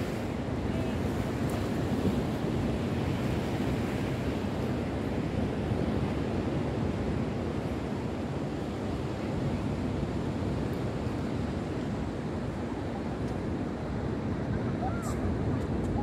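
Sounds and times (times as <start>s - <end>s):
surf washing on beach: 0.0s - 16.0s
wind on microphone: 0.0s - 16.0s.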